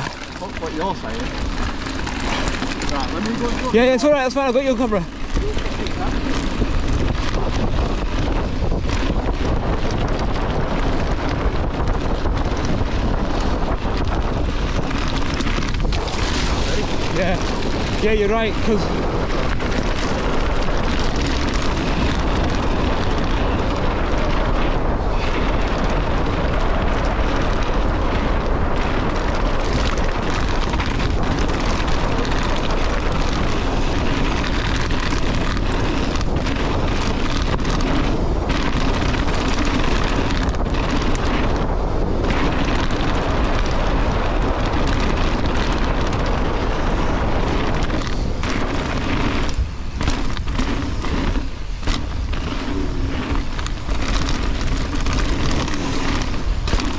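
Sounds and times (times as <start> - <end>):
bike tyres rolling over stones: 0.0 - 56.9
wind buffeting microphone: 0.0 - 56.9.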